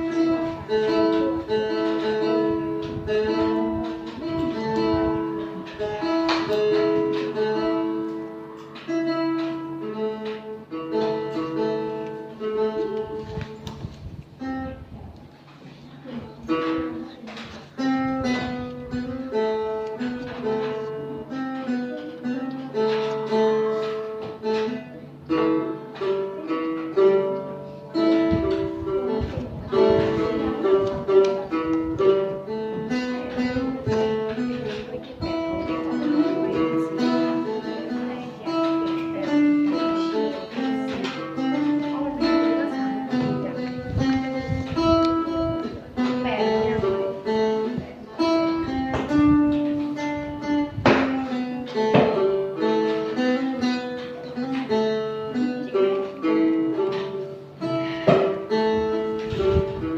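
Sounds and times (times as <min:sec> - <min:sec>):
plucked lute melody over drone: 0:00.0 - 0:59.9.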